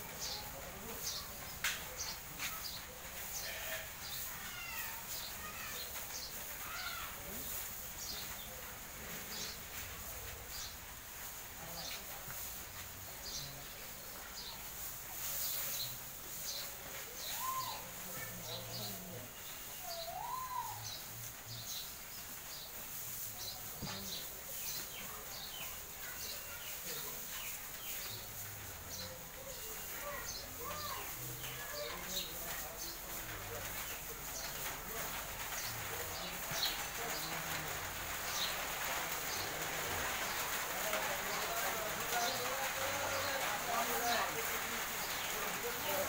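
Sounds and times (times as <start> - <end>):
small birds chirping: 0.0 - 11.0, 11.6 - 46.0
steady background noise: 0.0 - 46.0.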